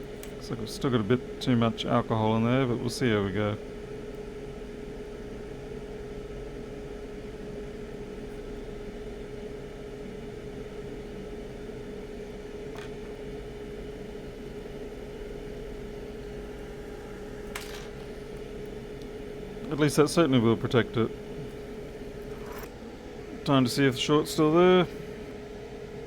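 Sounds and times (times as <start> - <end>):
machine hum with steady tone: 0.0 - 26.0.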